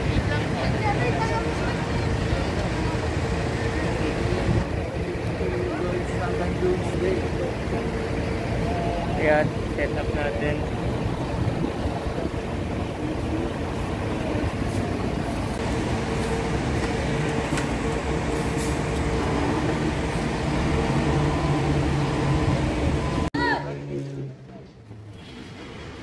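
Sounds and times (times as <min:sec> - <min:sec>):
vehicle engine idling: 0:00.0 - 0:23.3
constant hum: 0:00.0 - 0:25.1
traffic noise: 0:00.0 - 0:26.0.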